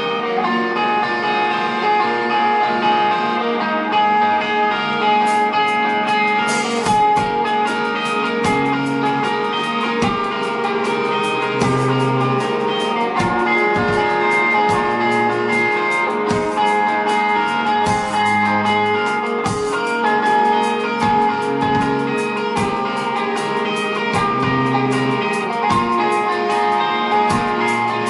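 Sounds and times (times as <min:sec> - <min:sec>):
electric guitars: 0:00.0 - 0:28.0
electric bass: 0:03.8 - 0:28.0
drum kit beat: 0:05.0 - 0:28.0.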